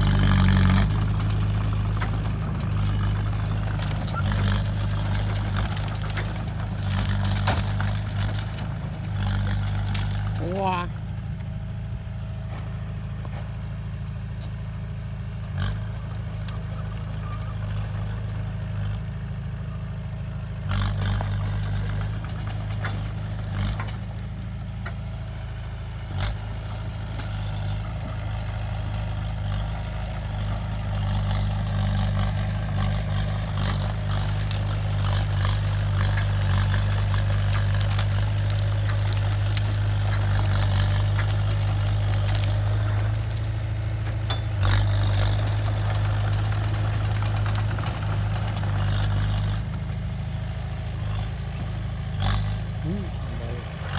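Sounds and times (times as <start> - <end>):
heavy machinery diesel engine: 0.0 - 53.9.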